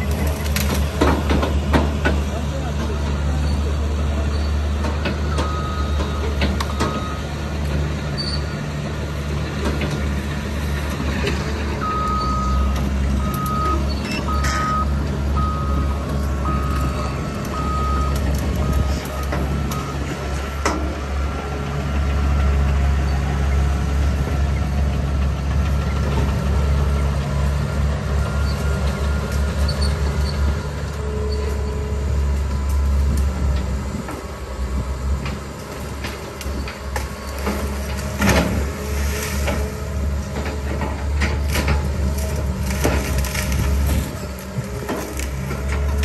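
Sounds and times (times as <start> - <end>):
heavy vehicle engine humming: 0.0 - 46.0.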